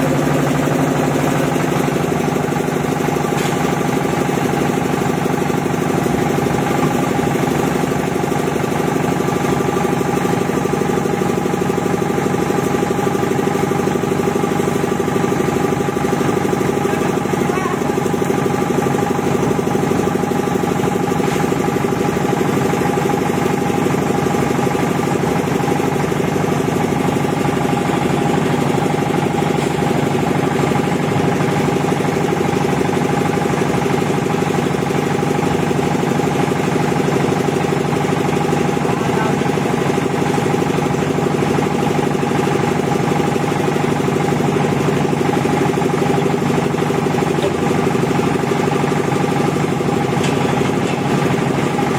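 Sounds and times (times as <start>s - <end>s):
concrete mixer engine running: 0.0s - 51.9s.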